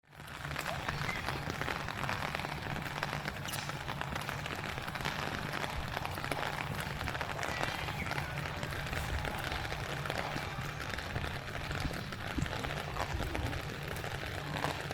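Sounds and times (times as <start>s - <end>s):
heavy rain pattering: 0.0s - 14.9s.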